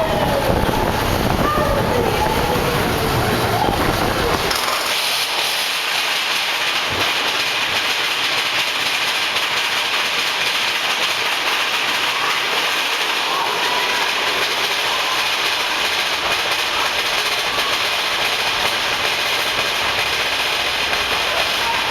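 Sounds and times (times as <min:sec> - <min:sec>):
roller coaster wheels on rail: 0:00.0 - 0:21.9.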